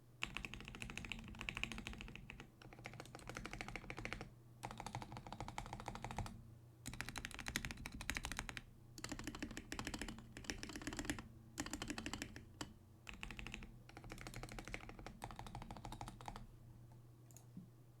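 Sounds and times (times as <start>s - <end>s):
fast mechanical keyboard typing: 0.2s - 16.5s.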